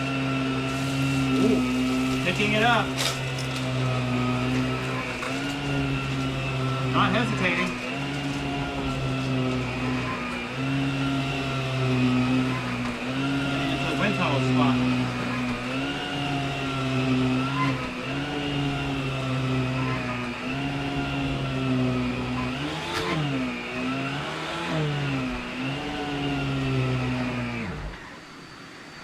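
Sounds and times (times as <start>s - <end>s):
vacuum cleaner motor hum: 0.0s - 29.0s.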